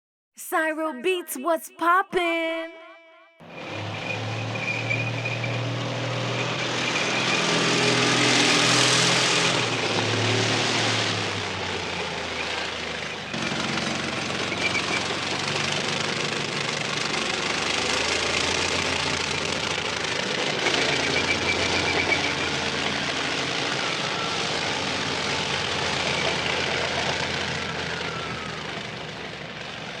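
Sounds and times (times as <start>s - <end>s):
tank engine and mechanical din: 3.4s - 30.0s.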